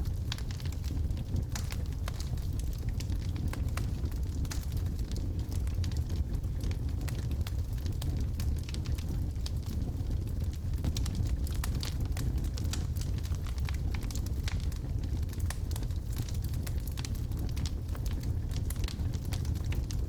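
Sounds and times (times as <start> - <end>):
fire rumbling: 0.0 - 20.0
wood crackling and popping: 0.0 - 20.0.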